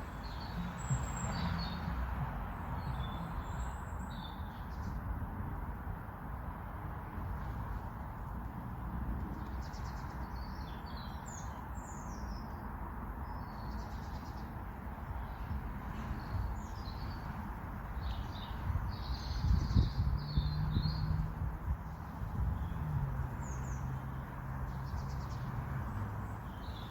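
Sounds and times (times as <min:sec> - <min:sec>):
songbirds chirping and twittering: 0:00.0 - 0:05.3, 0:07.2 - 0:26.9.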